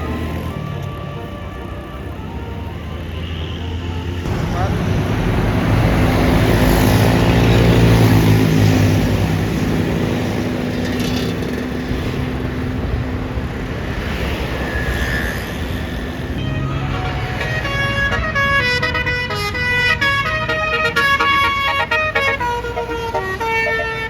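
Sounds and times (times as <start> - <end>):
bus diesel engine passing: 0.0 - 24.0.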